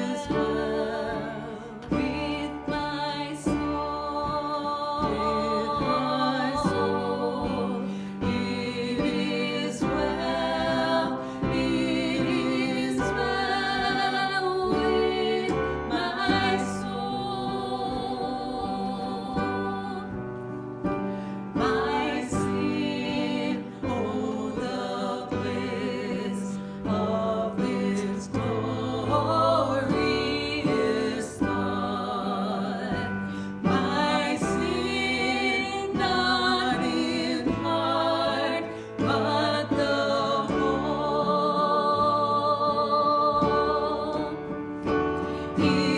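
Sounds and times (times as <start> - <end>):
instrumental accompaniment: 0.0 - 45.9
worship song singing: 0.0 - 45.9.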